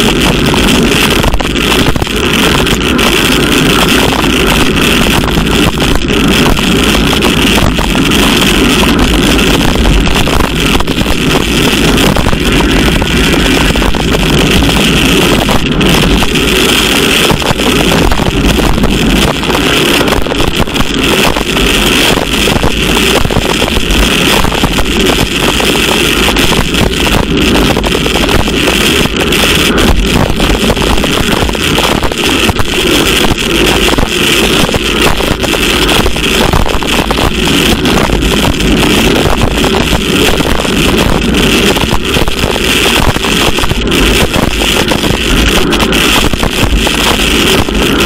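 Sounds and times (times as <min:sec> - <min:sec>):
wind noise on microphone: 0:00.0 - 0:48.0.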